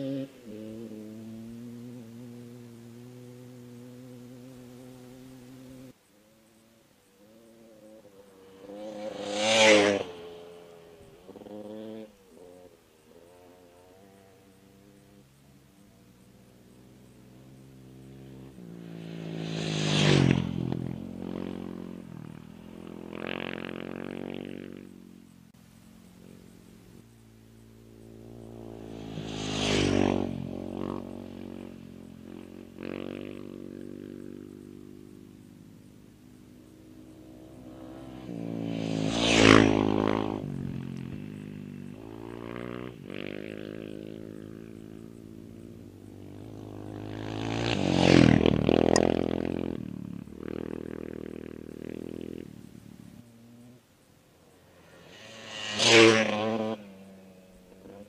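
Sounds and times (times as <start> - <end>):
off-road race vehicles passing: 0.0 - 58.0.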